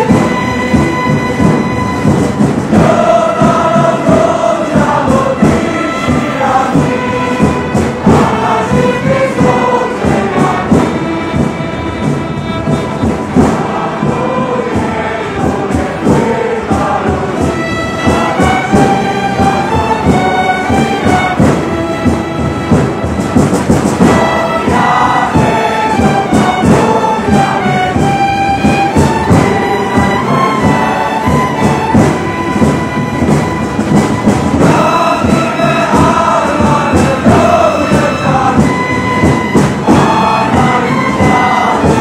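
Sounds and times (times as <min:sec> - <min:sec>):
choir singing: 0:00.0 - 0:42.0
orchestral strings: 0:00.0 - 0:42.0.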